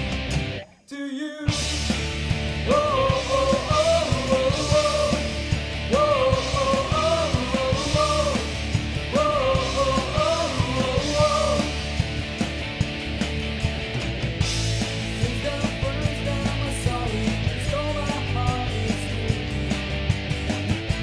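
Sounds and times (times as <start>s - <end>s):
rock band music: 0.0s - 0.7s, 1.5s - 21.0s.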